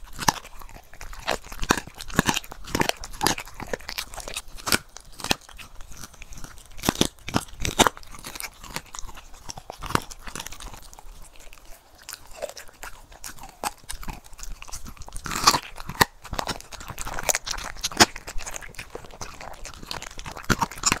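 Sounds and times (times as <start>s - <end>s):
dog chewing and crunching food: 0.0s - 21.0s.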